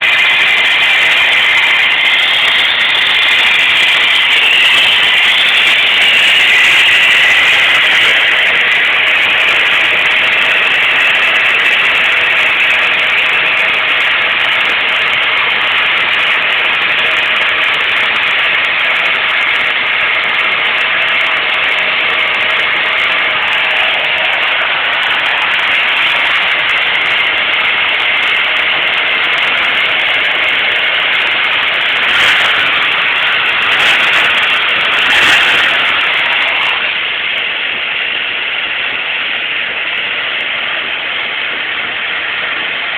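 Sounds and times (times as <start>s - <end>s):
car engine high idle: 0.0s - 42.9s.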